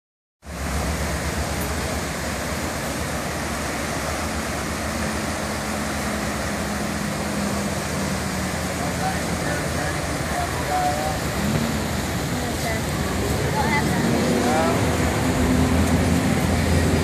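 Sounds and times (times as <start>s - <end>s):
river rushing through rapids: 0.4s - 17.0s.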